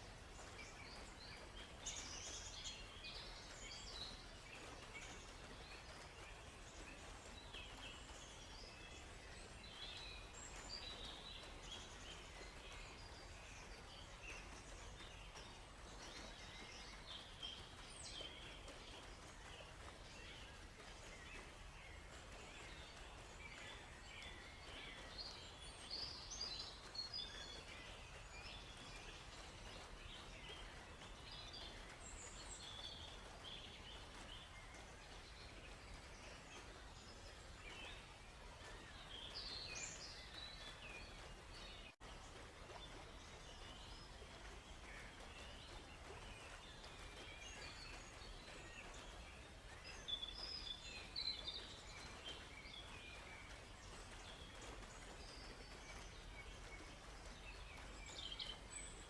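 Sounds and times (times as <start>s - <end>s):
forest background hiss: 0.0s - 59.0s
songbirds chirping: 0.0s - 59.0s.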